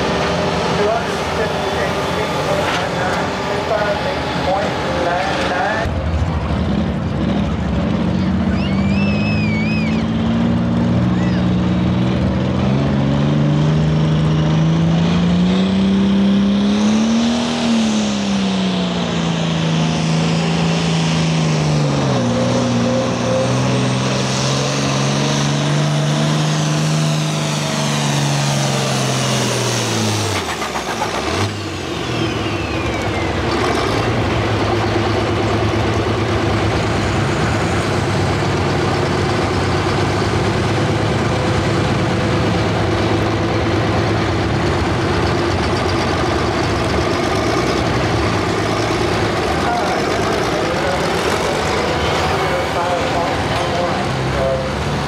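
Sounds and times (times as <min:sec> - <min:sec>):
tractor diesel engine: 0:00.0 - 0:55.0.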